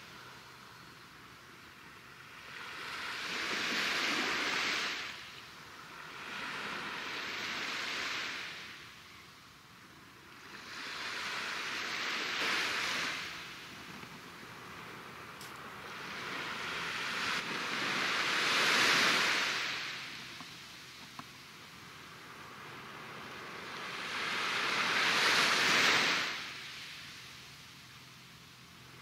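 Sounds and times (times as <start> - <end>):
waves washing onto shore: 0.0 - 29.0.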